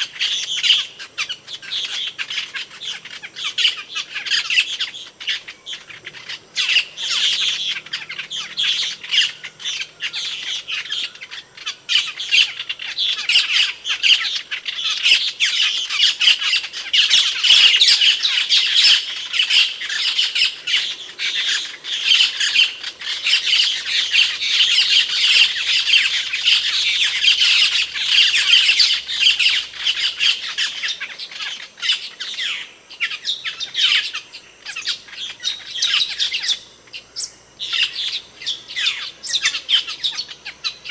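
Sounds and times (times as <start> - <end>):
starling shrill calls and chatter: 0.0 - 40.9.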